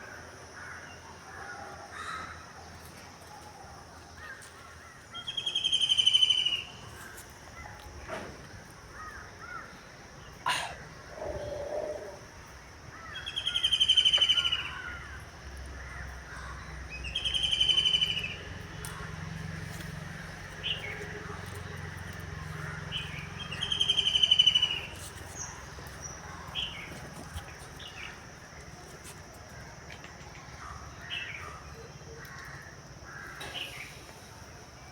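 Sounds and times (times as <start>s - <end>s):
birds trilling and chirping: 0.6s - 34.9s.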